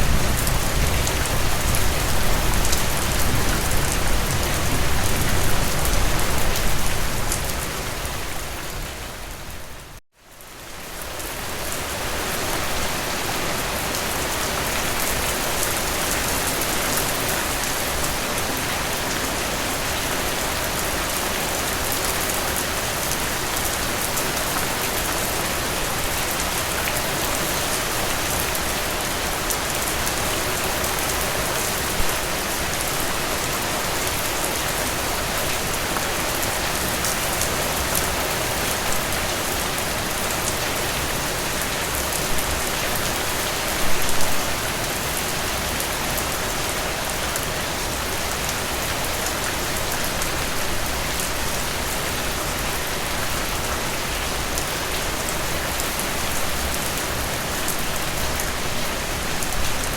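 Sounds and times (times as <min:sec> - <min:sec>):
rain falling through trees: 0:00.0 - 0:59.9.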